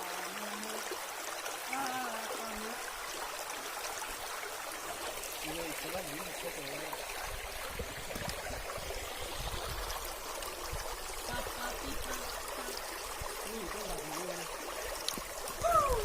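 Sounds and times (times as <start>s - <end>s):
waterfall rushing water: 0.0s - 16.0s.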